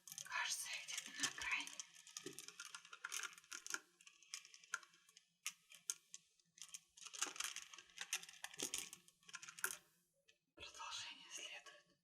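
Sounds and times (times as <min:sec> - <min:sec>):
crystals tapping and clinking: 0:00.0 - 0:09.8.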